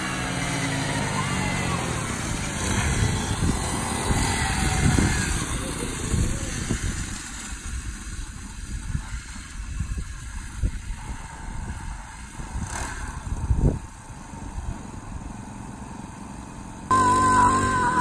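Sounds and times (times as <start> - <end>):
small two-stroke engines buzzing: 0.0 - 18.0.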